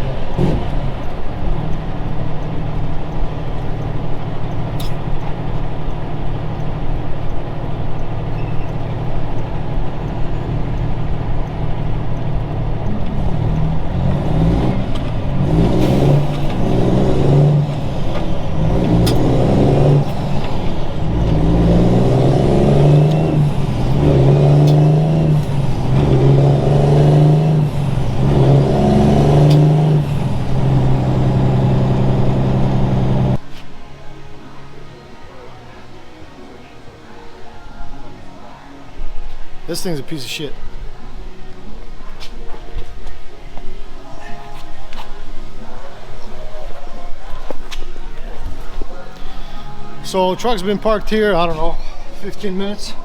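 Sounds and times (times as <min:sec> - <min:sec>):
diesel truck engine running: 0:00.0 - 0:33.4, 0:39.4 - 0:53.0.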